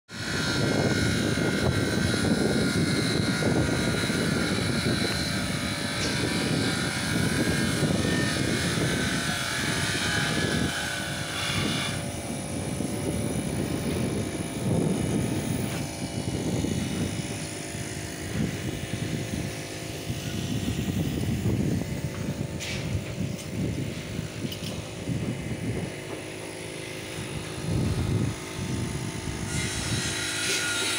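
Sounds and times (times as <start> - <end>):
wind buffeting microphone: 0.1 - 30.7
high machine whine: 0.1 - 30.9.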